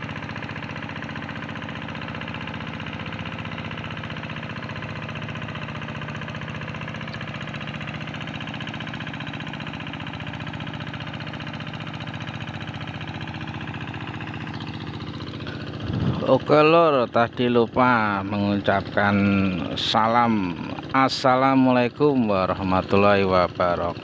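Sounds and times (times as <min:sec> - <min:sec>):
tractor engine droning: 0:00.0 - 0:24.0.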